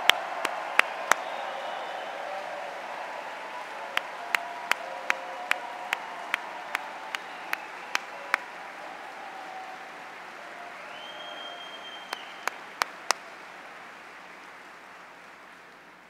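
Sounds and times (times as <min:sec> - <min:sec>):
close person clapping: 0:00.0 - 0:16.0
crowd applauding: 0:00.0 - 0:16.0.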